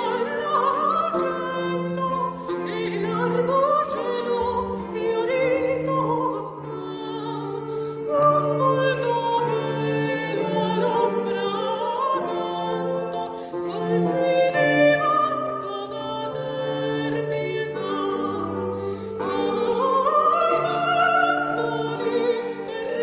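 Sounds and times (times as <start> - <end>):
woman singing: 0.0 - 23.0
wooden wind instrument: 0.0 - 23.0.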